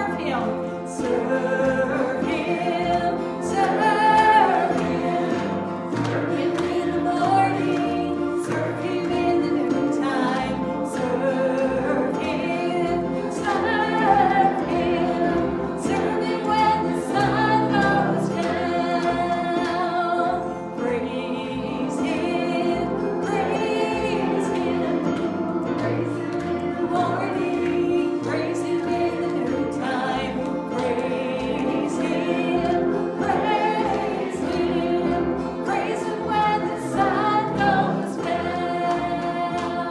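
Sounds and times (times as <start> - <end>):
group singing gospel song: 0.0 - 39.9
instrumental backing with bass: 0.0 - 39.9.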